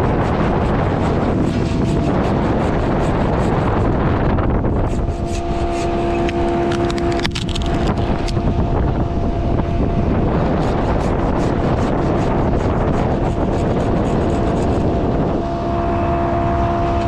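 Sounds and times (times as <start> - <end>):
steady humming tone: 0.0 - 17.0
wind buffeting microphone: 0.0 - 17.0.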